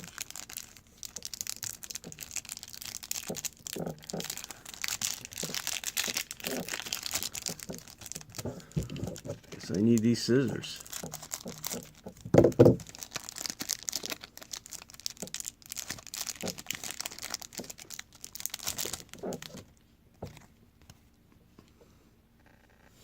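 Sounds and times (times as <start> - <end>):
wrapper crinkling and tearing: 0.0 - 19.8.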